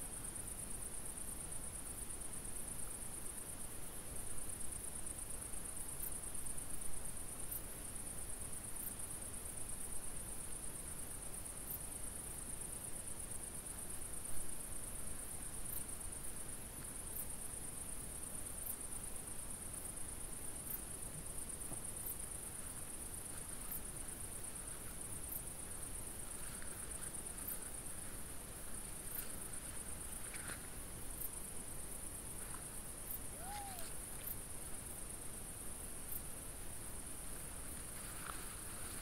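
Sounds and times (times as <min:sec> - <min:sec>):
crickets chirring: 0:00.0 - 0:39.0
faint hiss: 0:00.0 - 0:39.0.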